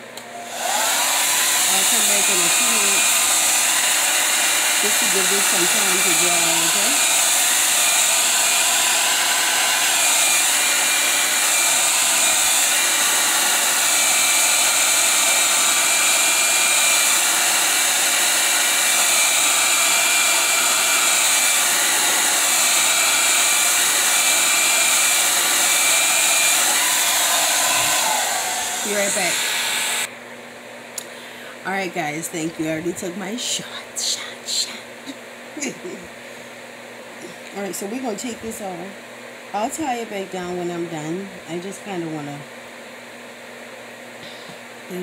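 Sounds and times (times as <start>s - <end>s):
hair dryer blowing: 0.0s - 30.2s, 31.0s - 45.0s.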